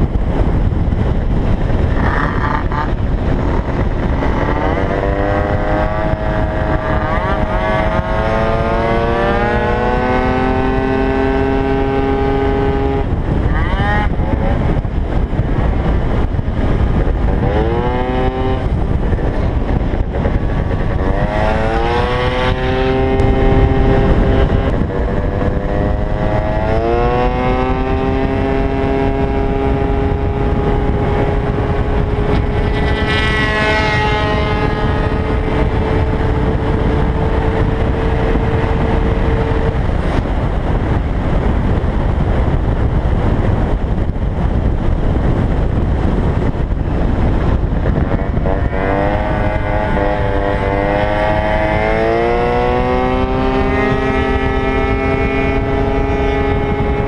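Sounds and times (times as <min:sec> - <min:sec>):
scooter engine at full throttle: 0:00.0 - 0:57.0
wind rushing over microphone: 0:00.0 - 0:57.0.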